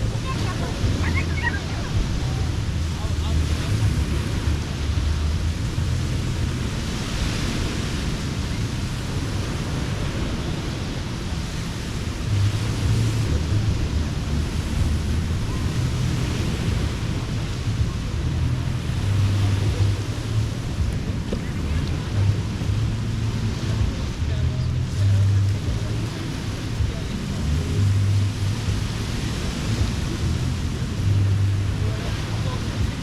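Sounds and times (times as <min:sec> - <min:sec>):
ocean waves breaking: 0:00.0 - 0:33.0
wind rumble on microphone: 0:00.0 - 0:33.0.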